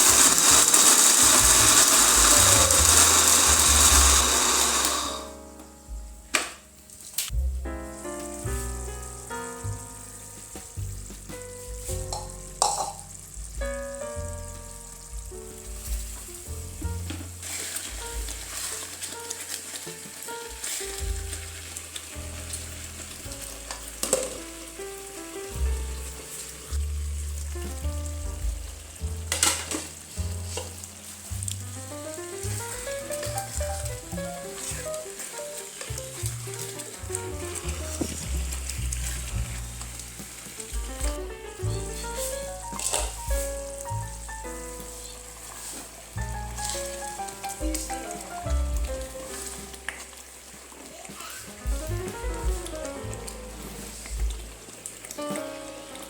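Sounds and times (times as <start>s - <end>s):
background music: 0.0s - 50.7s, 51.5s - 56.0s
food frying sizzle: 0.0s - 56.0s
high hiss with crackles: 0.0s - 56.0s.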